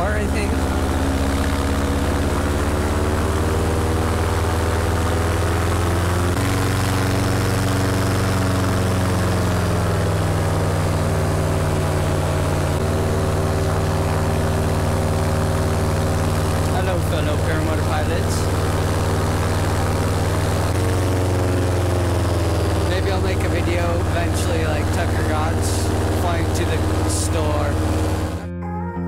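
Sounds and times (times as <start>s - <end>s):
paramotor engine and propeller: 0.0s - 28.6s.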